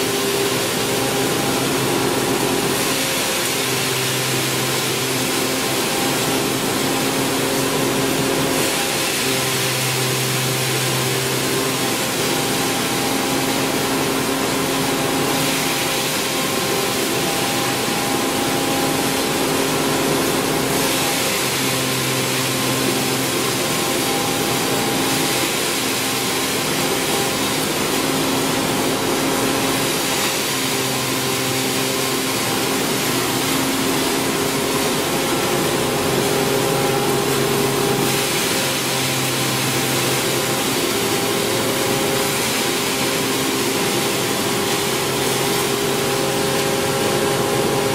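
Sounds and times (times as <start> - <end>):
hammer mill running: 0.0 - 47.9.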